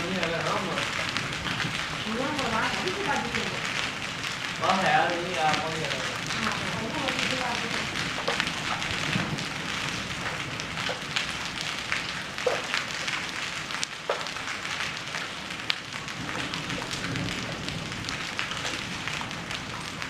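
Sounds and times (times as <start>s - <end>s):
hailstones striking hard surfaces: 0.0s - 20.0s
heavy rain hiss: 0.0s - 20.0s.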